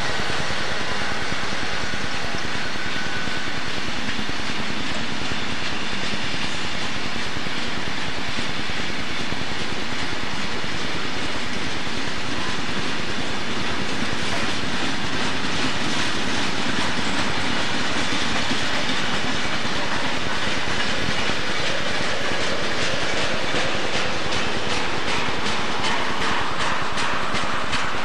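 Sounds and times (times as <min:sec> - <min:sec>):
freight train rumble: 0:00.0 - 0:28.0
train wheels clacking over rail joints: 0:00.0 - 0:28.0.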